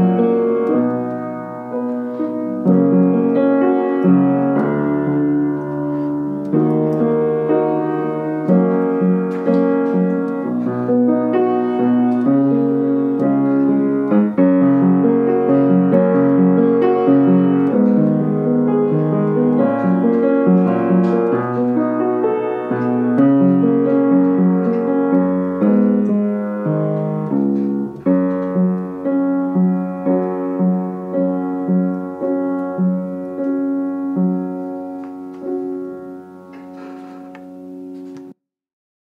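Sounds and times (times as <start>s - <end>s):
piano backing track: 0.0s - 38.4s.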